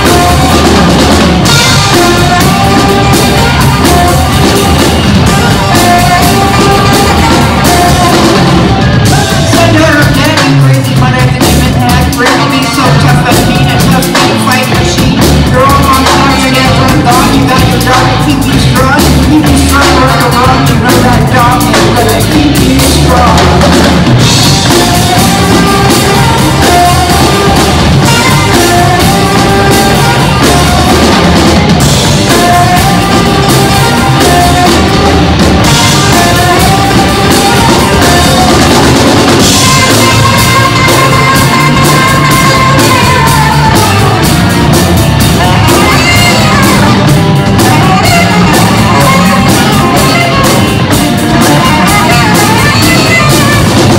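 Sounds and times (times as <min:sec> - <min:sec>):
drum kit: 0:00.0 - 0:53.9
electric bass: 0:00.0 - 0:53.9
electric guitars: 0:00.0 - 0:53.9
saxophone melody: 0:00.0 - 0:53.9.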